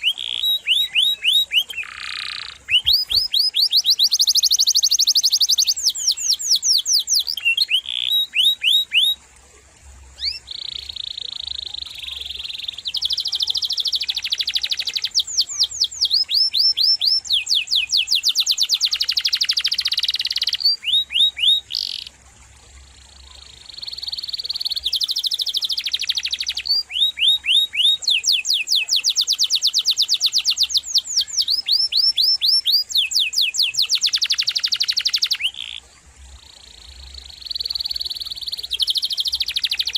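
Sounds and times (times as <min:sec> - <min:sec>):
canary singing trills: 0:00.0 - 0:09.2, 0:10.1 - 0:22.2, 0:22.8 - 0:39.9.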